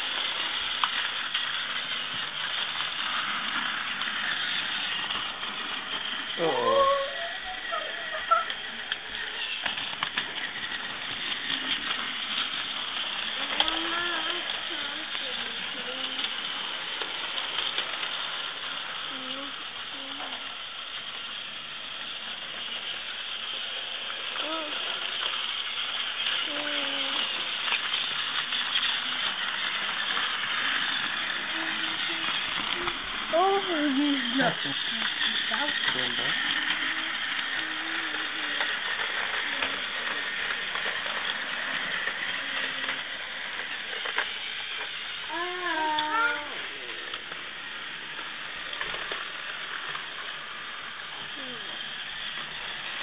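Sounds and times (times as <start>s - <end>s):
toy train motor whirring: 0.0s - 53.0s.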